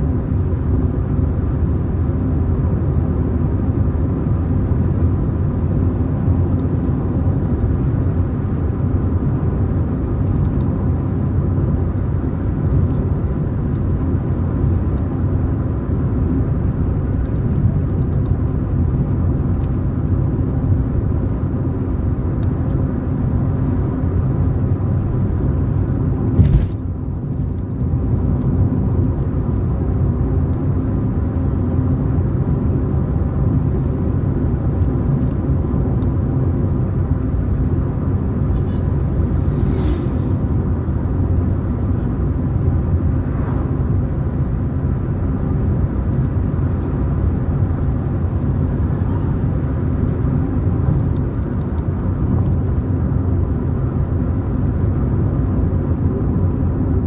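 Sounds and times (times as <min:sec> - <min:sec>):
car driving on road: 0:00.0 - 0:57.0.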